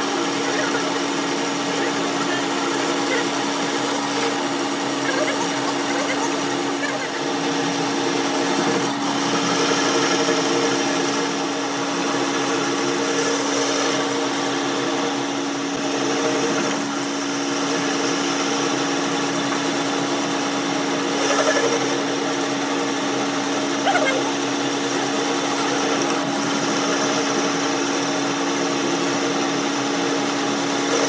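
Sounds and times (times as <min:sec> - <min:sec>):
power tool humming: 0:00.0 - 0:31.0.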